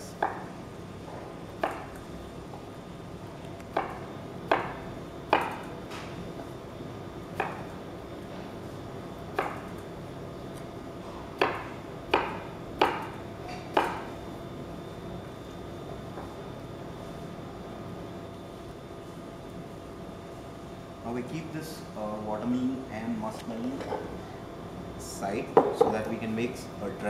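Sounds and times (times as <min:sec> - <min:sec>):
faint hum: 0:00.0 - 0:27.0.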